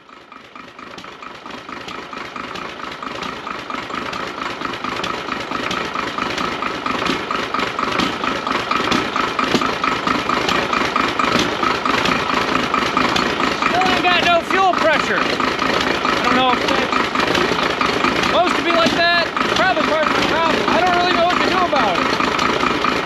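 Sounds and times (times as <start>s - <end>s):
diesel engine idling with knock: 0.0s - 23.0s.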